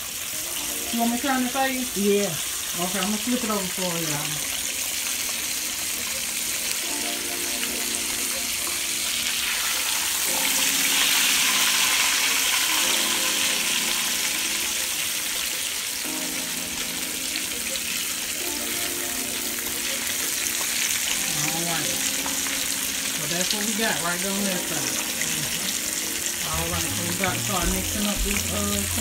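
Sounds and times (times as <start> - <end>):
fish frying in hot oil: 0.0 - 29.0.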